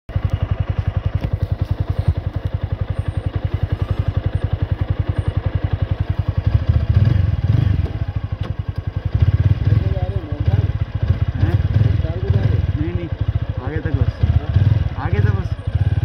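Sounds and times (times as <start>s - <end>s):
motorcycle engine idling: 0.1s - 16.0s.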